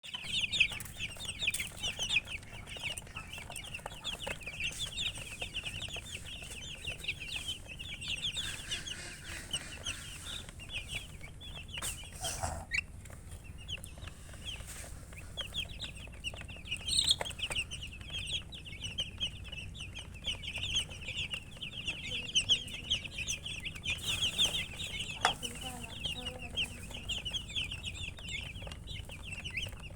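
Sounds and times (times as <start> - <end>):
baby chicks peeping: 0.0 - 29.9.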